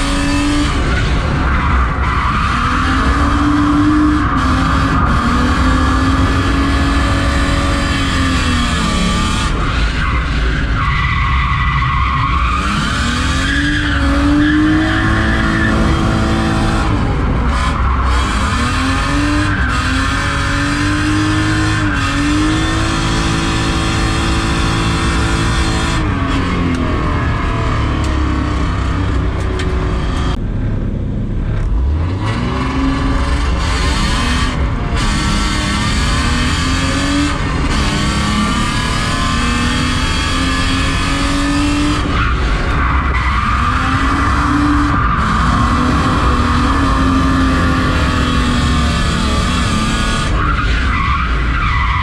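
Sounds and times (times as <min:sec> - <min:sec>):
car engine revving: 0:00.0 - 0:52.0
tyres skidding: 0:00.0 - 0:52.0.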